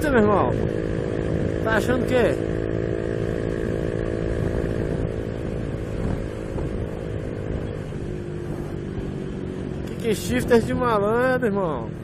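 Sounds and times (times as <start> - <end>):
motorcycle engine running: 0.0 - 12.0
wind and road rumble: 0.0 - 12.0.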